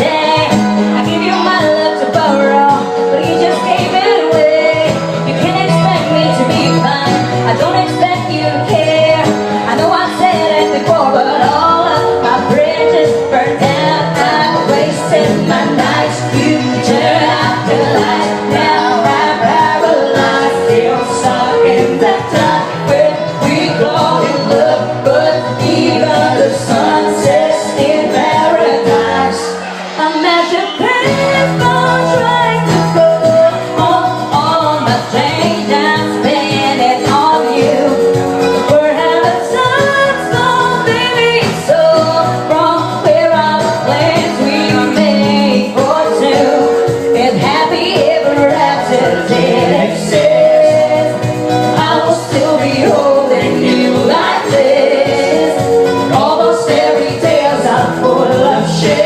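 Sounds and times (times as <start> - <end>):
backing track: 0.0 - 59.0
woman singing pop song: 0.0 - 59.0.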